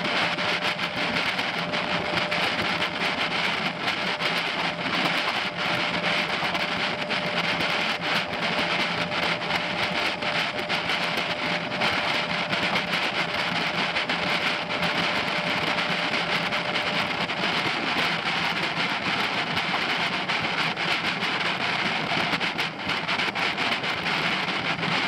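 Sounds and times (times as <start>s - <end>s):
outboard motor running: 0.0s - 25.0s
wind on microphone: 0.0s - 25.0s.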